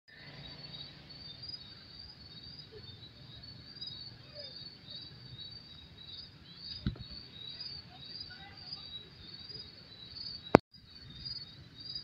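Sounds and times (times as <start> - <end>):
night insects chirping: 0.1 - 12.0.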